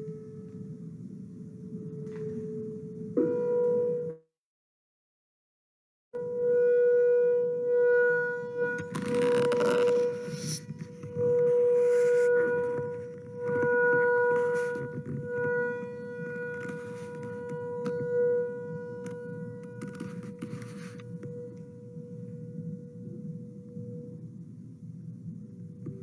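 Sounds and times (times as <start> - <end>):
steady ringing tone: 0.0 - 4.2, 6.2 - 26.0.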